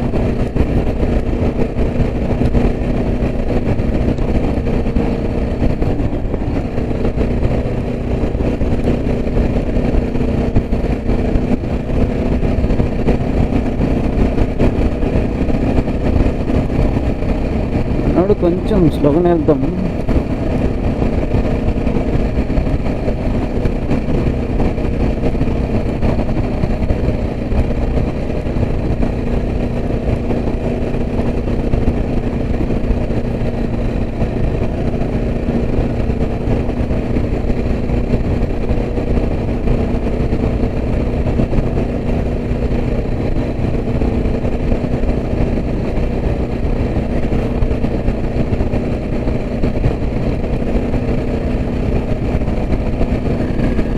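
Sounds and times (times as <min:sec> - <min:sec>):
motorcycle engine running: 0:00.0 - 0:53.9
road and wind noise: 0:00.0 - 0:53.9.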